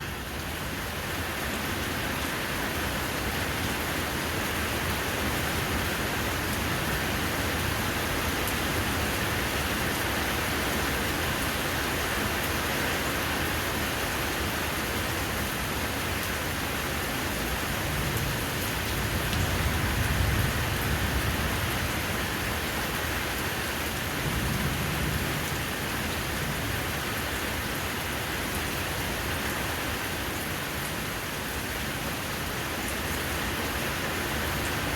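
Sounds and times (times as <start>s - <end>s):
rain on a patio: 0.0s - 34.9s.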